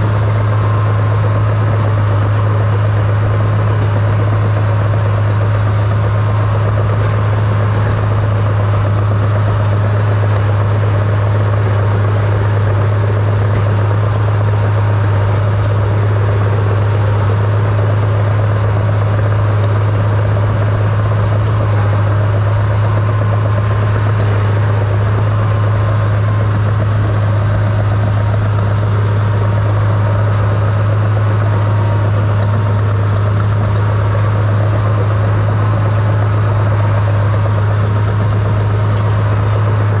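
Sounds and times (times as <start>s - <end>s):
bulldozer diesel engine drone: 0.0s - 40.0s.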